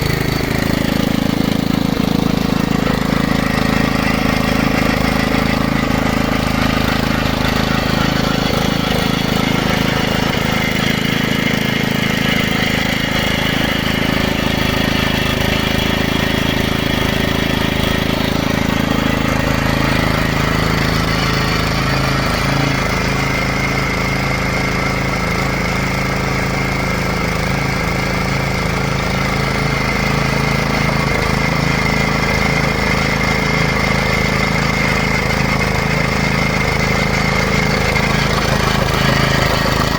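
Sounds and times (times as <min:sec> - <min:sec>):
drilling rig engine rattling: 0:00.0 - 0:39.9.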